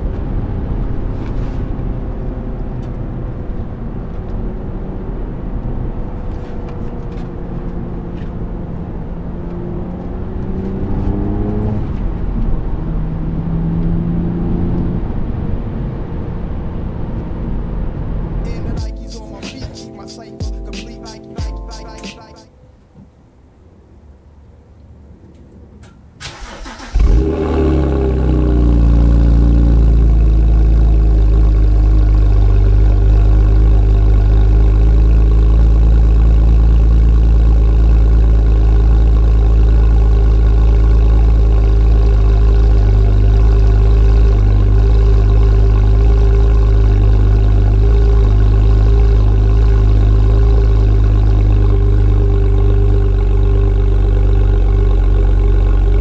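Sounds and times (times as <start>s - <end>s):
car engine starting and idling: 0.0s - 22.1s, 25.3s - 56.0s.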